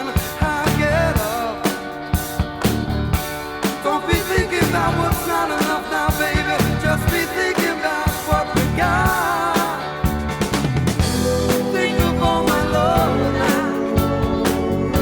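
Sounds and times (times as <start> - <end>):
pop music drum beat: 0.0 - 15.0.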